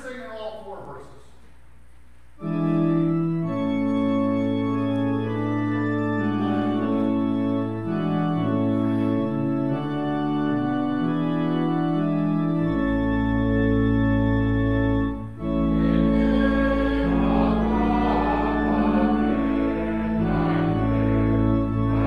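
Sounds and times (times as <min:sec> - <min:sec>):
church organ chords: 0:02.3 - 0:22.0.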